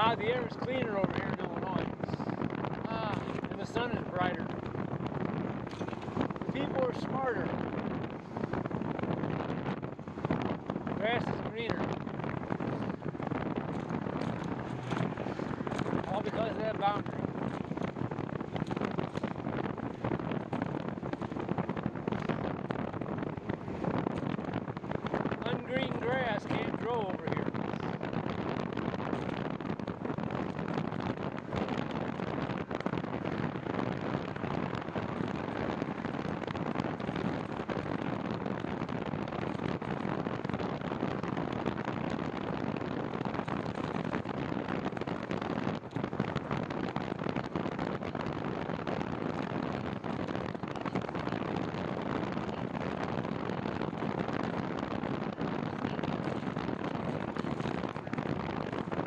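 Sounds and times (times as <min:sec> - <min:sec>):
wind buffeting the microphone: 0:00.0 - 0:59.0.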